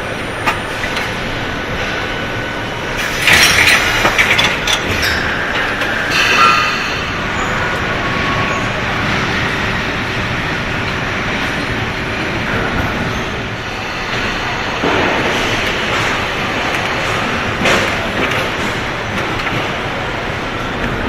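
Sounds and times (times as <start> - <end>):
assembly line machinery din: 0.0 - 21.0.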